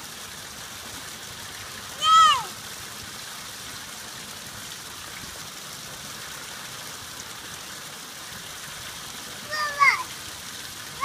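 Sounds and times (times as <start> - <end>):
fountain water splashing into basin: 0.0 - 11.0.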